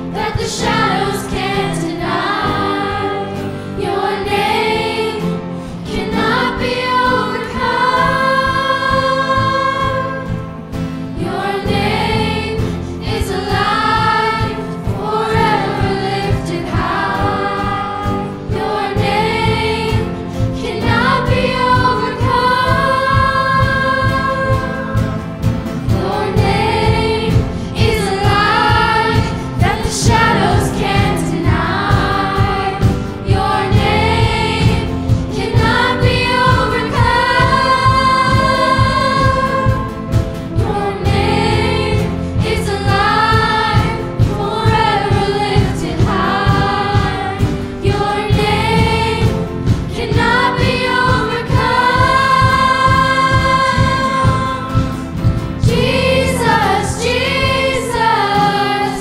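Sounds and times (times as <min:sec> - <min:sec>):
group of women singing: 0:00.0 - 0:59.0
keyboard: 0:00.0 - 0:59.0
drums keeping a steady beat: 0:06.0 - 0:59.0.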